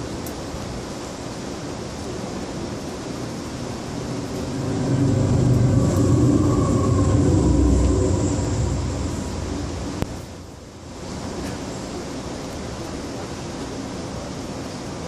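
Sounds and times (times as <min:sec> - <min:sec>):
diesel locomotive engine: 0:00.0 - 0:15.0
freight cars rumbling on rails: 0:02.1 - 0:15.0.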